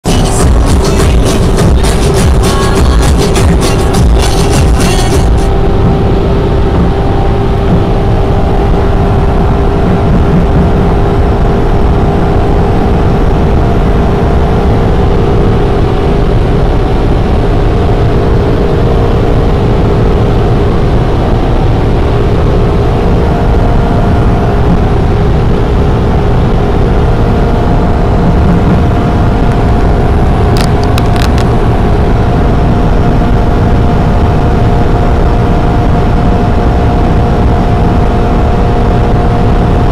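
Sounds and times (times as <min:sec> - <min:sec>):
car engine drone: 0:00.0 - 0:39.9
road noise: 0:00.0 - 0:39.9
wind noise: 0:00.3 - 0:39.9.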